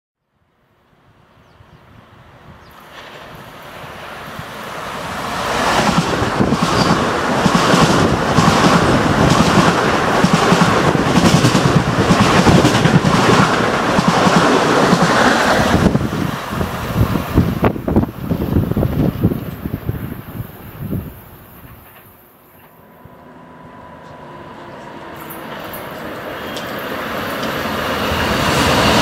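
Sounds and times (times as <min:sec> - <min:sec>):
train rushing past: 0:02.1 - 0:29.0.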